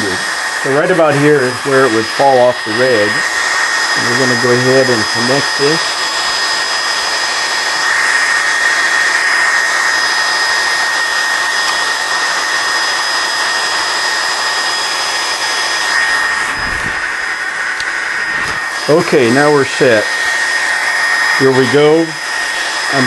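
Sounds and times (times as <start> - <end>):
cooling fans whirring with whine: 0.0 - 23.0.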